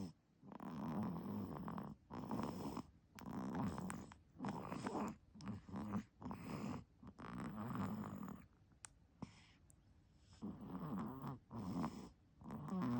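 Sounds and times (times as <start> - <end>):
baby snoring: 0.0 - 8.4, 10.4 - 12.9.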